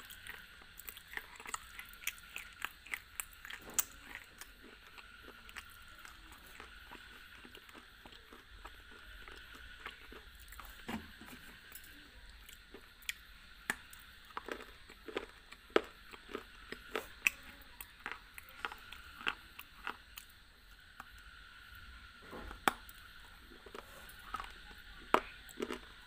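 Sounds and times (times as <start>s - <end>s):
crunching hard food: 0.0s - 26.0s
faint steady hiss: 0.0s - 26.0s.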